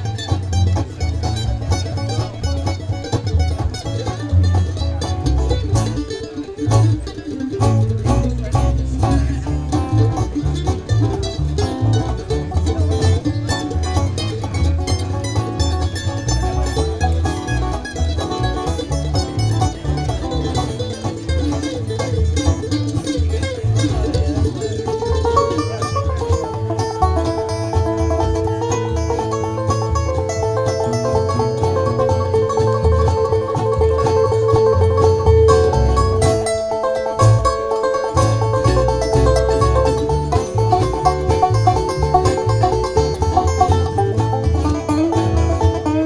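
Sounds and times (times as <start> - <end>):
acoustic guitars: 0.0 - 46.0
banjo: 0.0 - 46.0
mandolin: 0.0 - 46.0
upright bass: 0.0 - 46.0.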